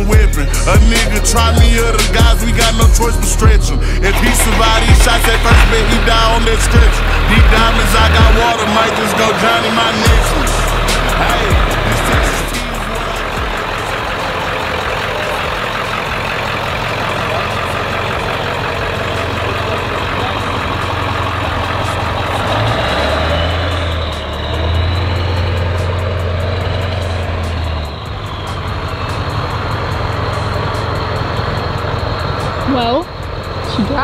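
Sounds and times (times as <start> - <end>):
diesel truck engine pulling away: 0.0 - 34.0.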